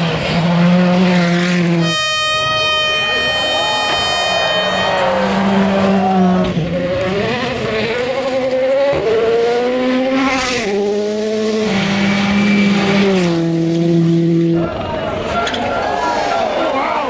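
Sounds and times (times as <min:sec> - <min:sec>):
rally car engines at full throttle: 0:00.0 - 0:17.0.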